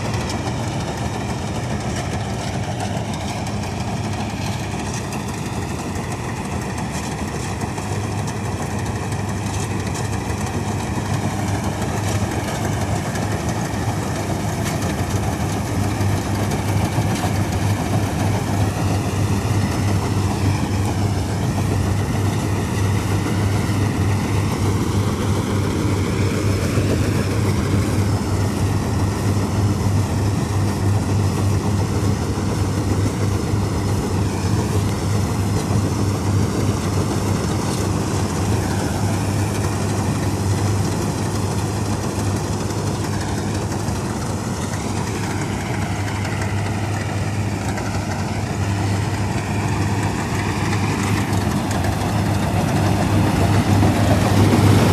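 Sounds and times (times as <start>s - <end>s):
low engine hum: 0.0s - 54.9s
machinery whine: 0.0s - 54.9s.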